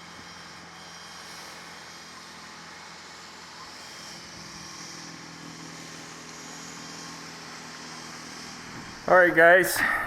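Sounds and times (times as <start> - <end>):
vehicle engine running steadily: 0.0 - 10.0.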